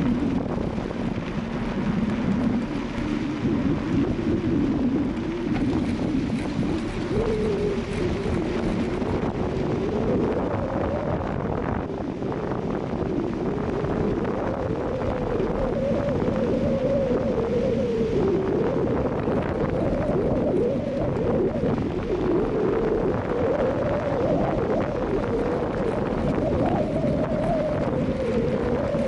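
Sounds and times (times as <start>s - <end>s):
strong wind on microphone: 0.0s - 29.0s.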